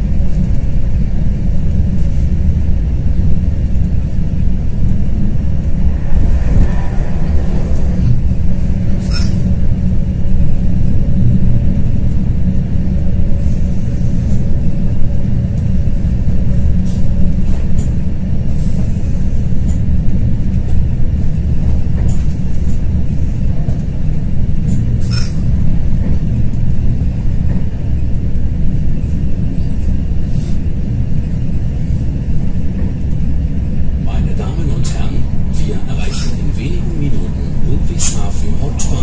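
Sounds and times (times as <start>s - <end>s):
train cabin rumble: 0.0s - 39.0s.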